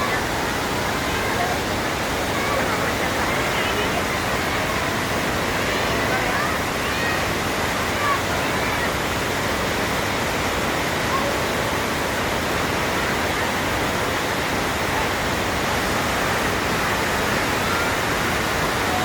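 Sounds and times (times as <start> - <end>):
waterfall pouring into pool: 0.0 - 19.0.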